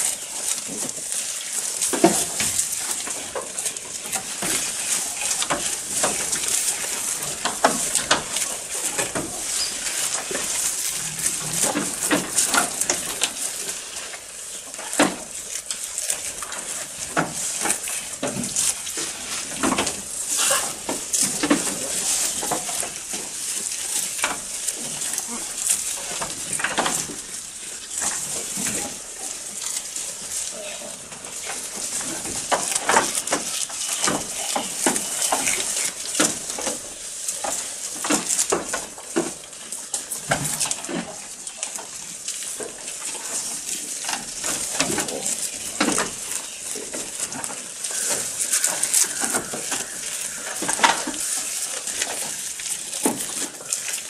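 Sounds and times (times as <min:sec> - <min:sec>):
goats chewing grass: 0:00.0 - 0:54.0
leaves rustling: 0:00.0 - 0:54.0.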